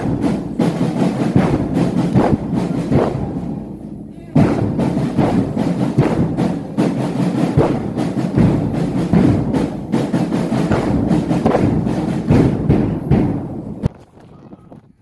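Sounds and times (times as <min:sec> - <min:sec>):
drum beating: 0:00.0 - 0:14.5
crowd voices: 0:00.0 - 0:15.0.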